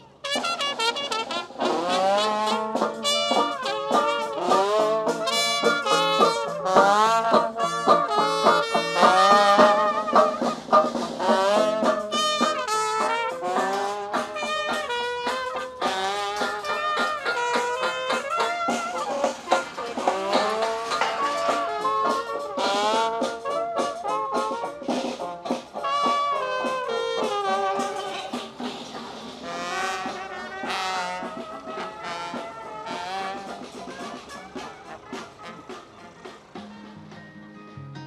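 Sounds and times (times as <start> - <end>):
brass horns playing lively melody: 0.0 - 37.2.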